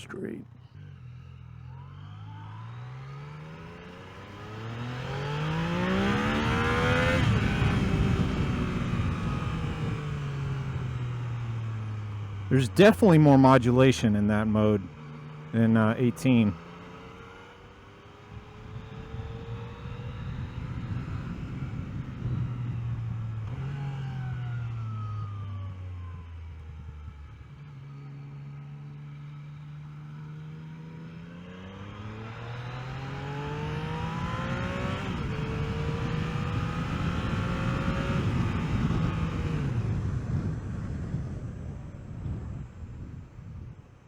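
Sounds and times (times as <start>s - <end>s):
motorcycle engine while riding: 0.0s - 44.0s.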